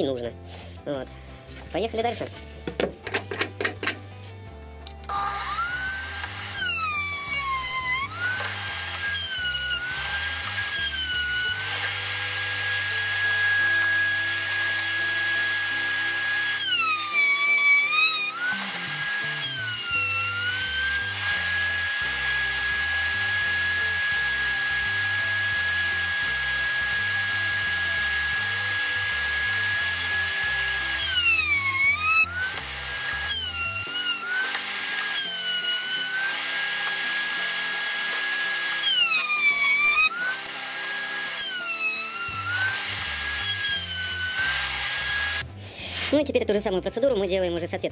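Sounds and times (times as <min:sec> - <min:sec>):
router motor whining: 0:05.0 - 0:45.5.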